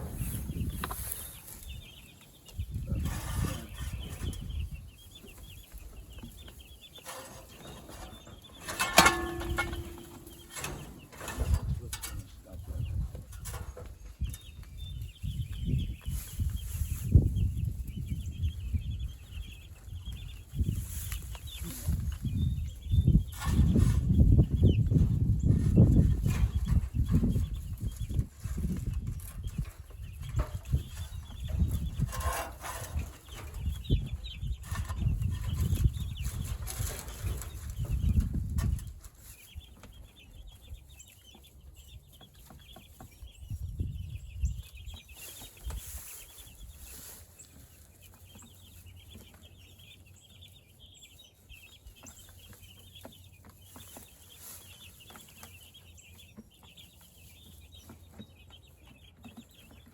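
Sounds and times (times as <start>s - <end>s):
chickens clucking and cheeping: 0.0s - 59.9s.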